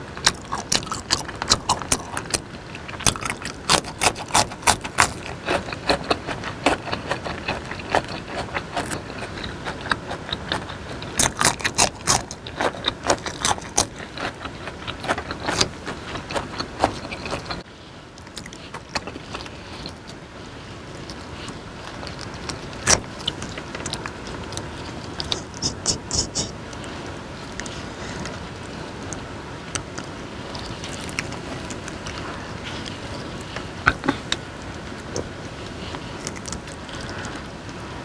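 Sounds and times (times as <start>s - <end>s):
wet chewing and mouth clicks: 0.1s - 20.2s, 20.8s - 37.8s.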